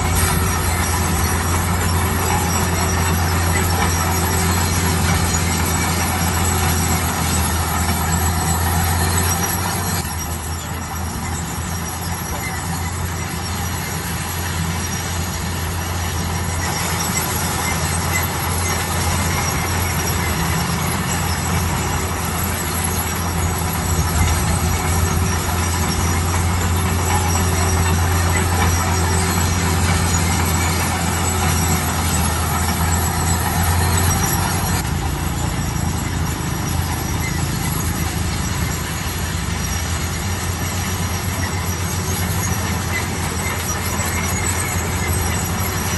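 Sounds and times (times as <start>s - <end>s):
low engine drone: 0.0s - 45.9s
metal squealing and grinding: 0.0s - 45.9s.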